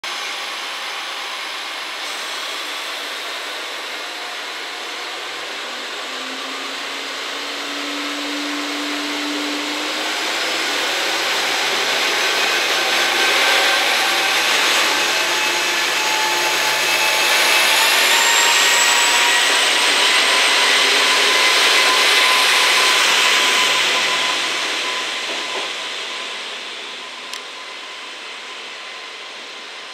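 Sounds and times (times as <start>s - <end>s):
diesel train engines running: 0.1s - 29.9s
rising whine: 0.1s - 29.9s.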